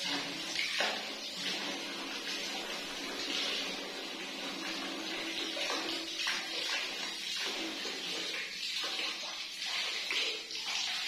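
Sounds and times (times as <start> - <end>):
shower water running and splashing: 0.0 - 11.0.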